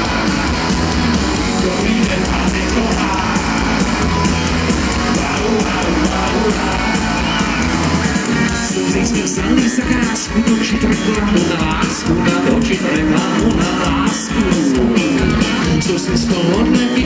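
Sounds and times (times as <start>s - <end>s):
live rock band playing: 0.0s - 17.0s
person singing: 1.4s - 17.0s.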